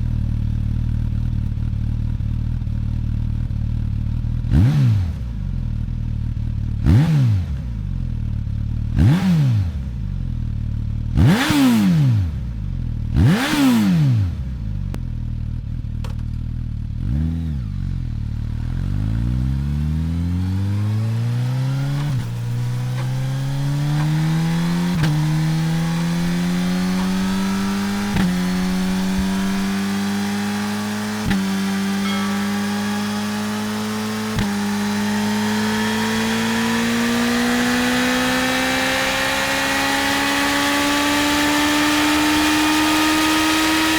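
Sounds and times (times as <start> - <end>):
motorcycle accelerating through gears: 0.0 - 43.9
motorcycle engine revving: 0.0 - 43.9.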